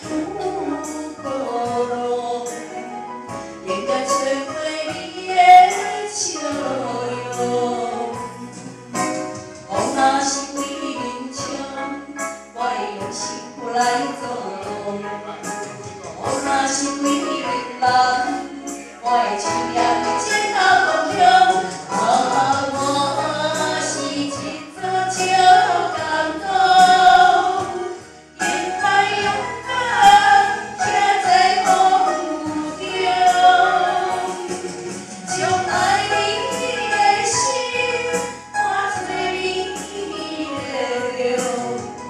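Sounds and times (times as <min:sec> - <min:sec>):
woman singing into microphone: 0:00.0 - 0:15.5, 0:16.1 - 0:42.0
instrumental accompaniment: 0:00.0 - 0:42.0.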